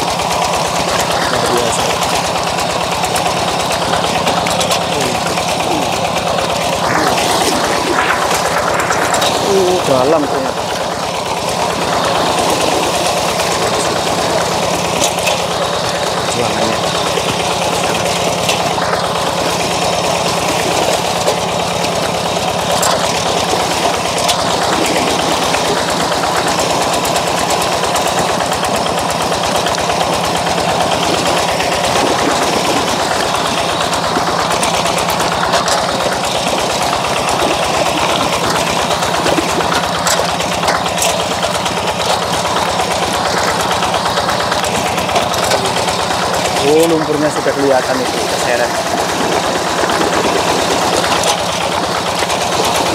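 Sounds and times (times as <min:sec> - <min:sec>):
diesel tractor engine running: 0:00.0 - 0:52.9.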